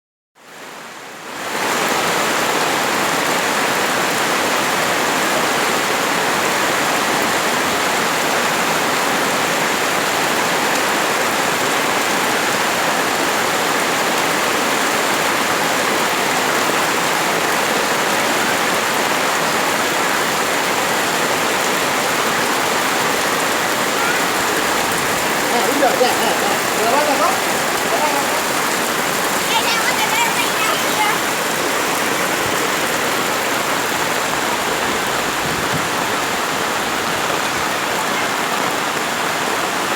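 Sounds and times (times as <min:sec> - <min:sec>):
heavy rain pouring: 0:00.4 - 0:39.9.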